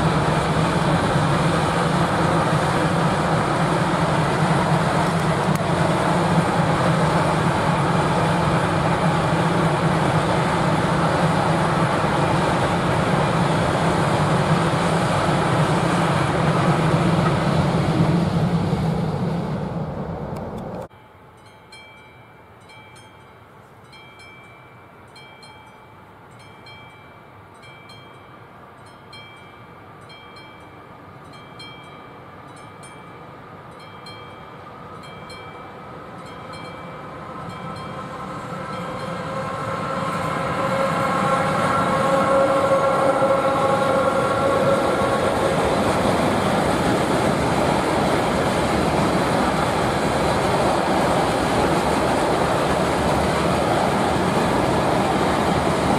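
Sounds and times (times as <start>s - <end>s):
locomotive whine: 0.0s - 55.9s
train wheels on rail: 0.0s - 55.9s.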